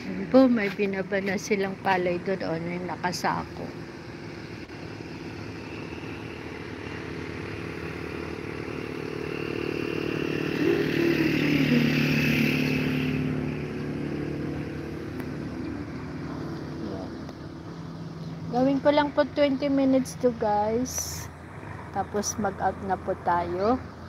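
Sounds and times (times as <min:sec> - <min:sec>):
motorcycle engine passing by: 0:00.0 - 0:23.9.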